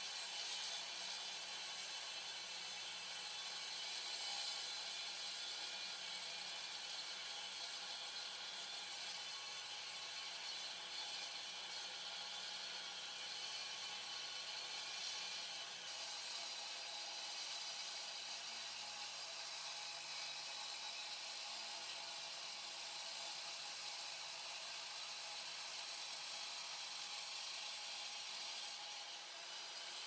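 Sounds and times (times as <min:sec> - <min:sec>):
concrete saw cutting concrete: 0:00.1 - 0:30.0.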